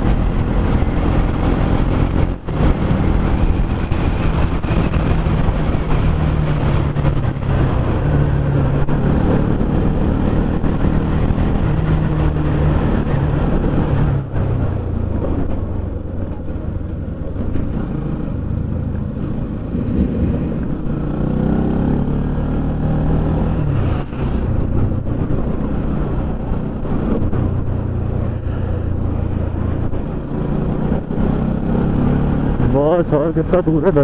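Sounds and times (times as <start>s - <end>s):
wind noise on microphone: 0.0s - 21.9s, 22.8s - 32.7s.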